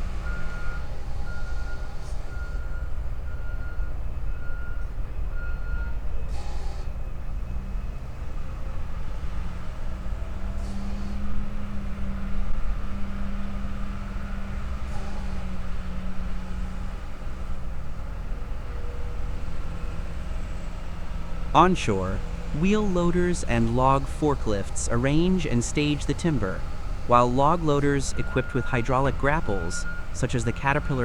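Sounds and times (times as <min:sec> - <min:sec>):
diesel engines rumbling: 0:00.0 - 0:31.0.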